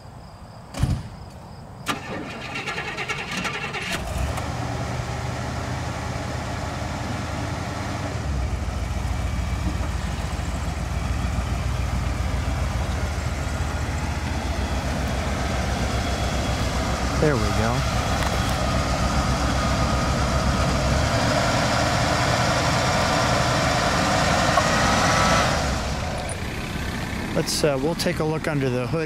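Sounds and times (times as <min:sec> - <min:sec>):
car engine idling: 0:01.9 - 0:29.0.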